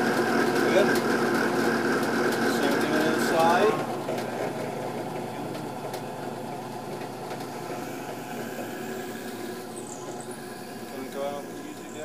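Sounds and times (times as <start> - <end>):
drill press boring into wood: 0.0 - 12.0.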